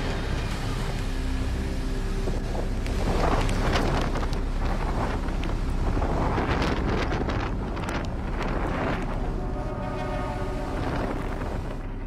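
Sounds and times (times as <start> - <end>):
gusty wind through palm trees: 0.0 - 12.0
wind buffeting microphone: 1.5 - 12.0.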